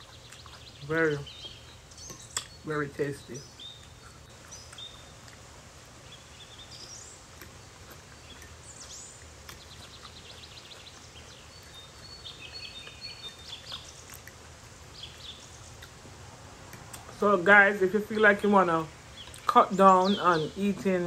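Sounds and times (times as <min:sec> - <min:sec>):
birds chirping: 0:00.0 - 0:21.0
steady low hum: 0:00.0 - 0:21.0.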